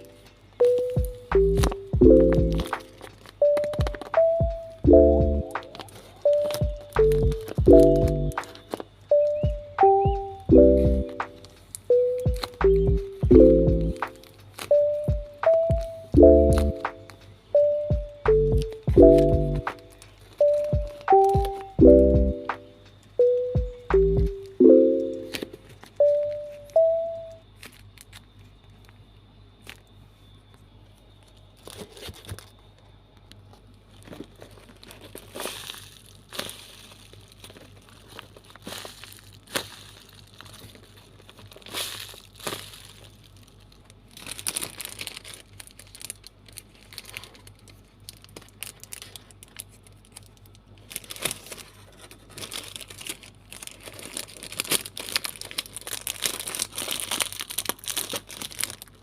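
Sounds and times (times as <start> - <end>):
packaging crinkling and rustling: 0.0 - 23.4, 24.3 - 29.0, 29.6 - 59.0.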